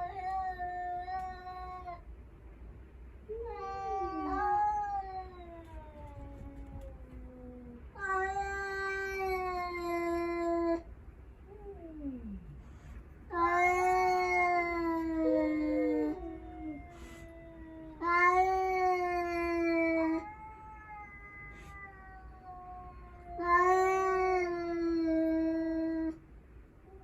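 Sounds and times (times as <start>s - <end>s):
cats yowling: 0.0s - 2.1s, 3.3s - 10.9s, 13.3s - 26.2s
low moaning cat calls: 3.3s - 10.9s, 11.5s - 26.2s.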